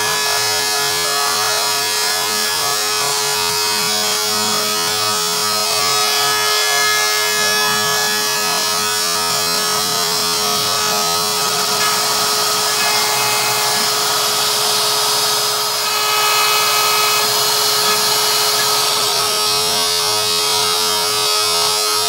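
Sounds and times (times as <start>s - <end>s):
router spindle high whine: 0.0s - 22.0s.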